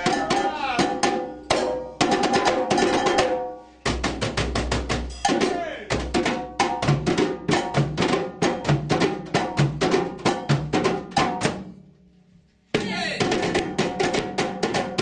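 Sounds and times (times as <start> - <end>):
drums and percussion playing: 0.0 - 11.9, 12.7 - 15.0.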